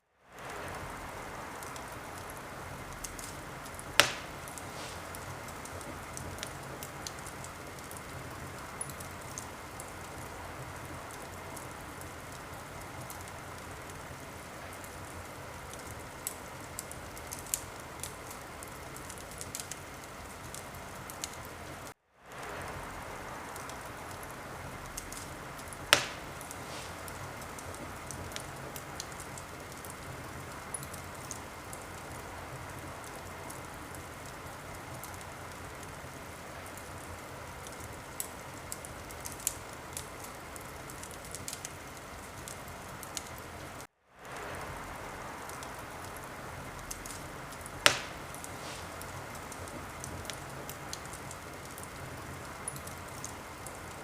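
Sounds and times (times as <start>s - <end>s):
fire crackling: 0.0s - 54.0s
fire hissing: 0.3s - 54.0s
wood fire popping loudly: 0.4s - 54.0s.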